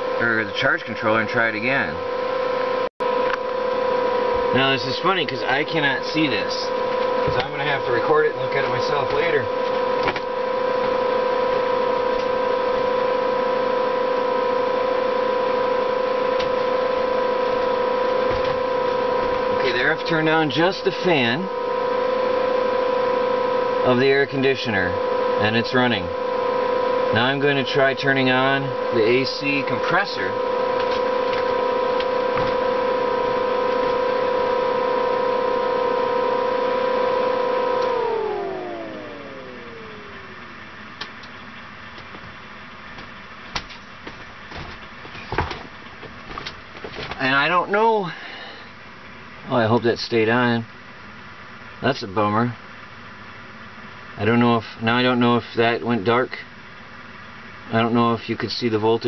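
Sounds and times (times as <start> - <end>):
air conditioner fan whir: 0.0 - 59.0
inverter electrical hum: 0.0 - 59.0.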